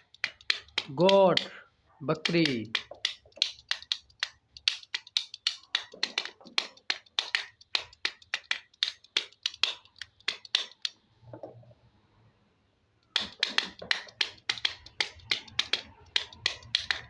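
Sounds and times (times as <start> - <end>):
plastic toys clicking together: 0.0 - 1.6, 2.2 - 11.0, 13.0 - 17.0.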